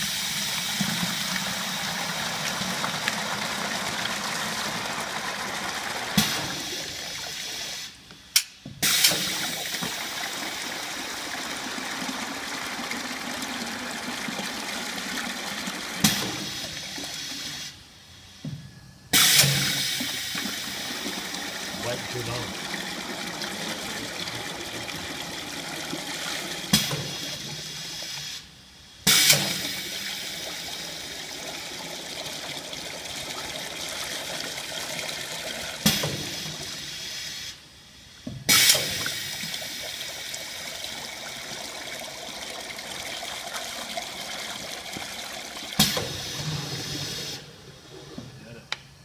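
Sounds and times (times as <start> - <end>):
water pouring into plastic buckets: 0.0 - 8.0, 8.8 - 17.8, 19.2 - 28.2, 29.1 - 37.0, 38.5 - 48.0.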